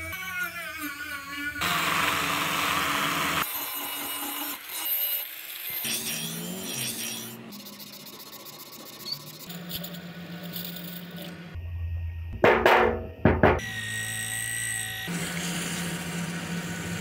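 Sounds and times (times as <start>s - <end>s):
bench grinder grinding: 0.0s - 11.6s, 13.5s - 17.0s.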